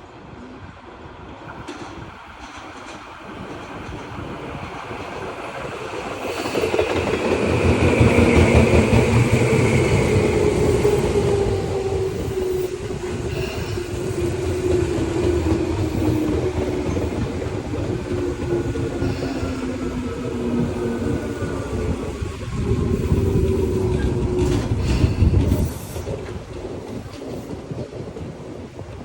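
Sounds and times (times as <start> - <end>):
electric train passing: 0.2 - 29.0
train wheel clatter: 1.5 - 29.0.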